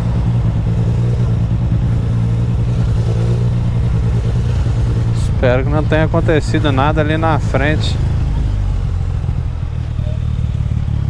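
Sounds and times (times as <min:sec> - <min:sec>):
motorcycle engine idling low: 0:00.0 - 0:11.0.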